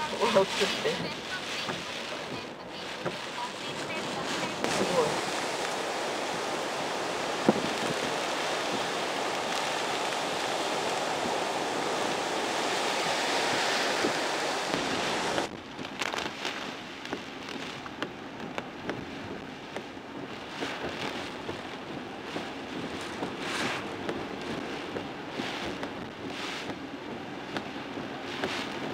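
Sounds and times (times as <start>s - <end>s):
heavy surf breaking: 0.0s - 28.9s
rain: 0.0s - 28.9s
strong wind: 0.0s - 28.9s.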